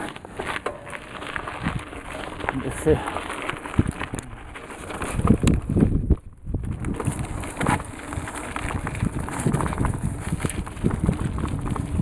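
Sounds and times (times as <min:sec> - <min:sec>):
bike rattling over dirt trail: 0:00.0 - 0:12.0.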